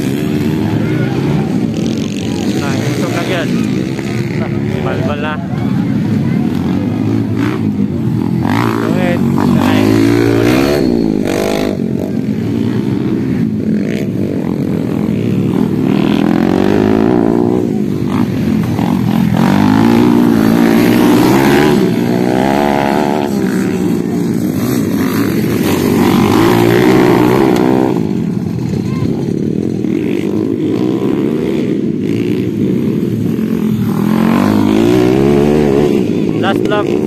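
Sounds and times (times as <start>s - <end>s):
motorcycles revving: 0.0s - 37.0s.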